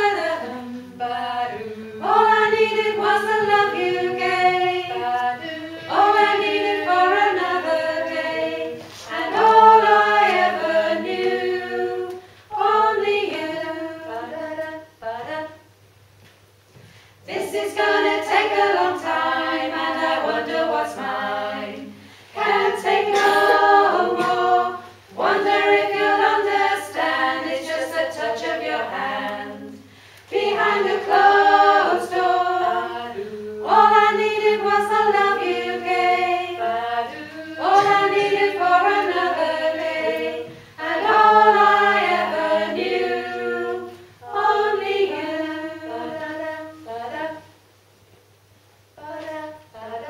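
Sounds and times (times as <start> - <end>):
women's choir singing a cappella: 0.0 - 15.7, 17.2 - 47.6, 49.0 - 50.0.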